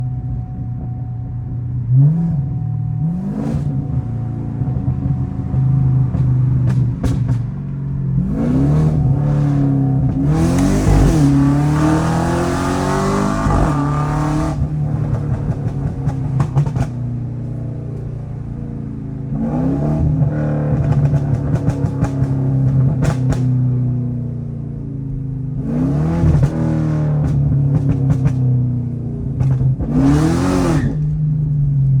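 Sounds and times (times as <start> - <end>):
car engine revving: 0.0 - 32.0
exhaust crackles and pops: 0.1 - 32.0.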